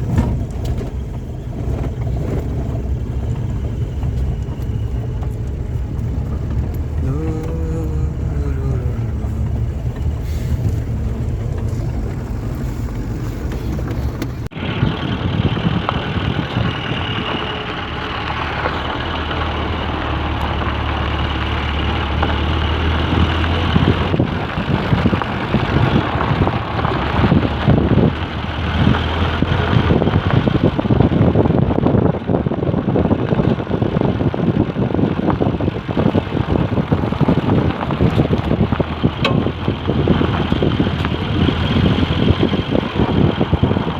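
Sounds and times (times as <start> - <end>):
vehicle engine drone: 0.0 - 43.9.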